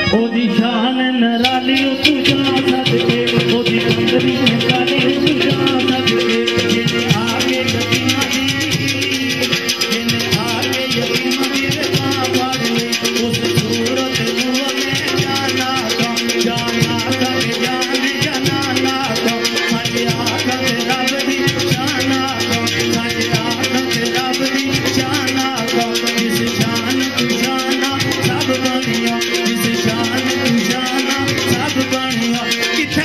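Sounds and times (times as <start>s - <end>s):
man singing into a microphone: 0.0s - 33.0s
sustained accompanying tones: 1.4s - 32.8s
rattling percussion beat: 1.4s - 33.0s.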